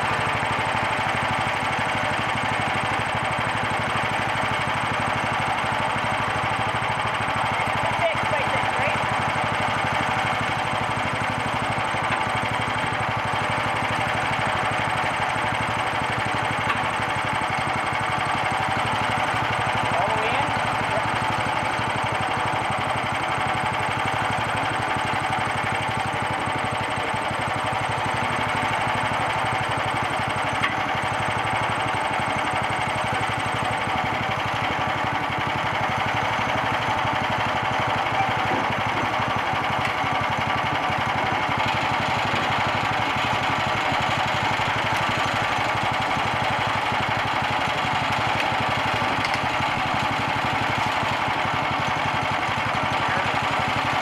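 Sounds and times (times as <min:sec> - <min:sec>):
saw cutting through log: 0:00.0 - 0:54.0
small gasoline engine running: 0:00.0 - 0:54.0.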